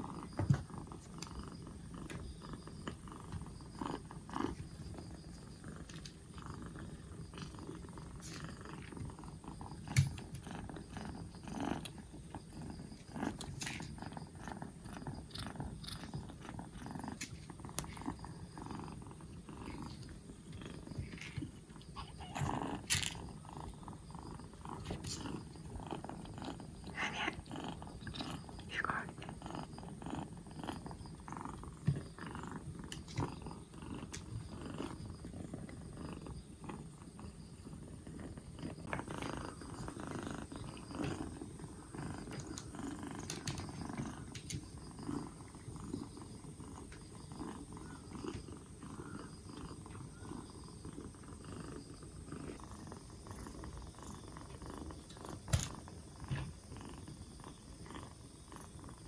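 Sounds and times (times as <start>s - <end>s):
kitten purring: 0.0s - 59.0s.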